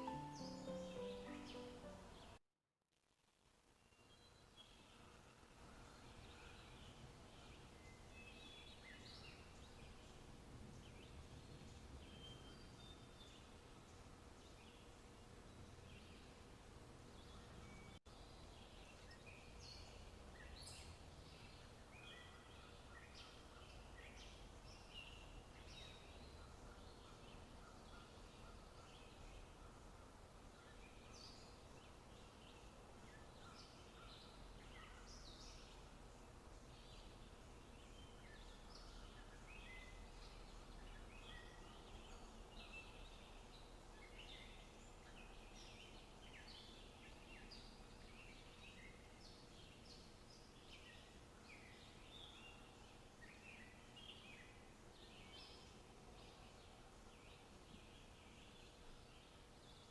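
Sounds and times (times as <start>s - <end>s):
low steady background hiss: 0.0s - 59.9s.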